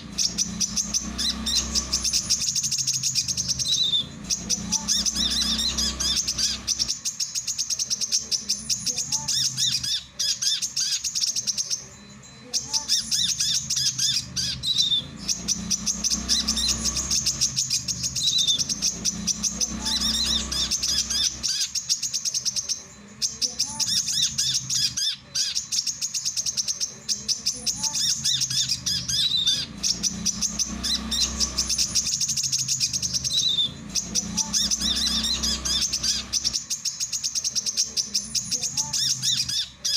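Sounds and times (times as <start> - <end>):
faint low hum: 0.0 - 39.9
sunbird twittering song: 0.0 - 39.9.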